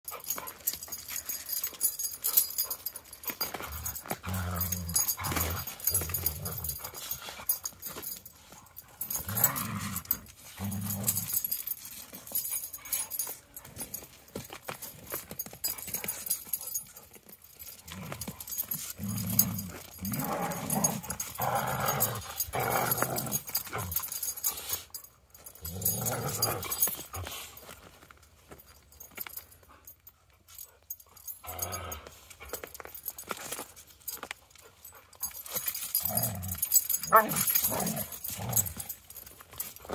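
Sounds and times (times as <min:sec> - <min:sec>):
dogs play growling: 0:00.1 - 0:28.1, 0:30.9 - 0:39.9.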